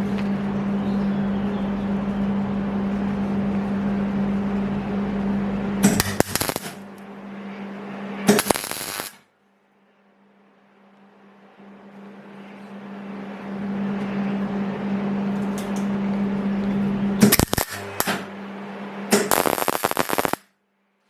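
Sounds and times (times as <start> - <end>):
machine humming: 0.0 - 9.2, 11.2 - 20.4.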